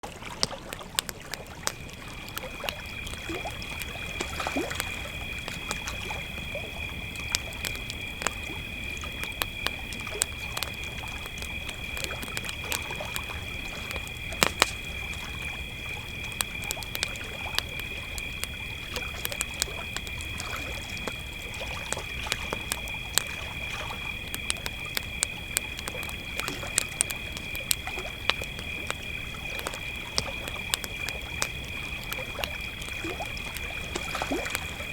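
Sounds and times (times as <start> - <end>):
campfire crackling: 0.0 - 34.9
crickets chirping: 0.0 - 34.9.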